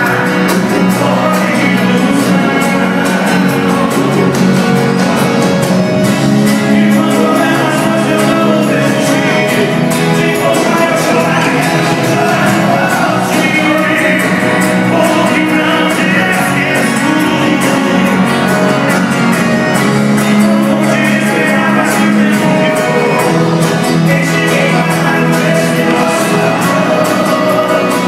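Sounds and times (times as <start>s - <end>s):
live band music with singing: 0.0s - 28.0s.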